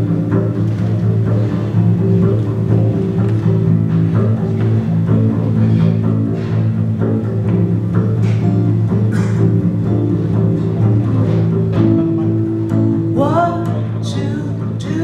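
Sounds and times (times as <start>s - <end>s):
acoustic guitar strumming: 0.0s - 15.0s
plucked double bass: 0.0s - 15.0s.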